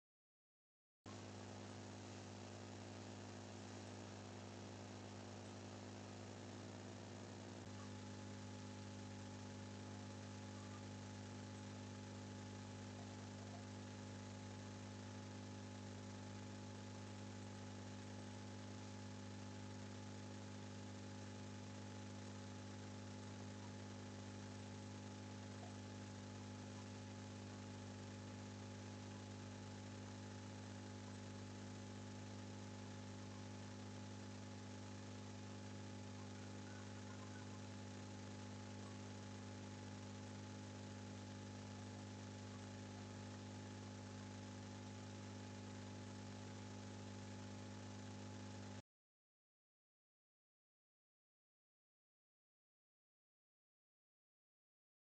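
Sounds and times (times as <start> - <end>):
faint mains hum: 1.1 - 48.8.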